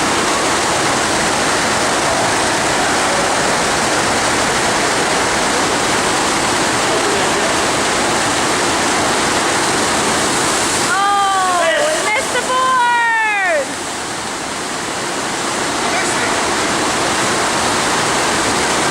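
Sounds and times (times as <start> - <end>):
rushing water from wave machine: 0.0 - 18.9.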